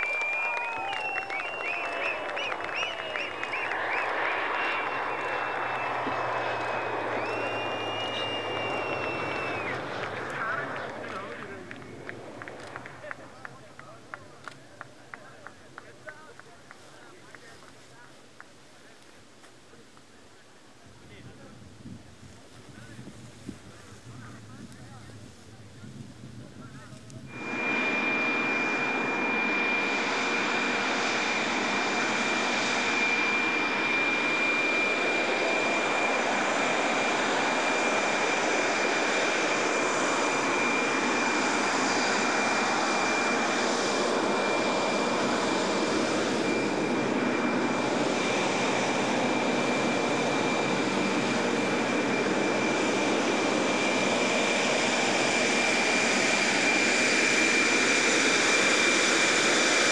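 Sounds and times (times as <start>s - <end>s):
high-pitched jet whine: 0.0s - 17.2s, 21.0s - 59.9s
jet engine roaring: 0.0s - 18.4s, 20.2s - 59.9s.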